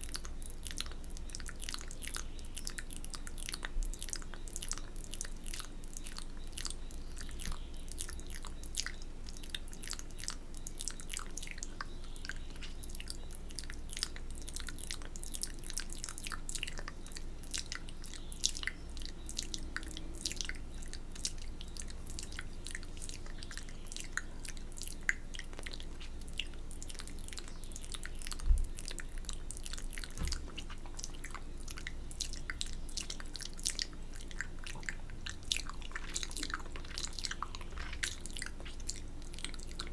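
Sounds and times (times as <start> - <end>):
wet lip and tongue smacks: 0.0 - 39.9.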